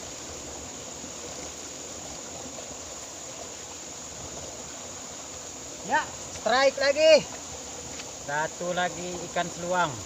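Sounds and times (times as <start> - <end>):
flowing water rushing: 0.0 - 10.0.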